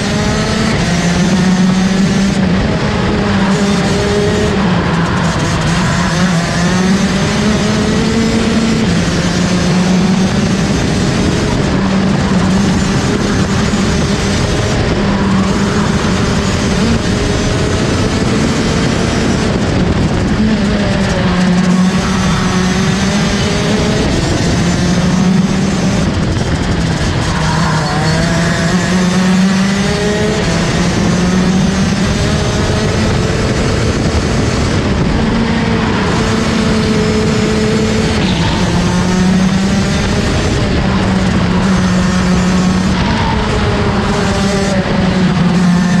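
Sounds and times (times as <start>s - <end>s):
racing kart engine revving: 0.0s - 46.0s.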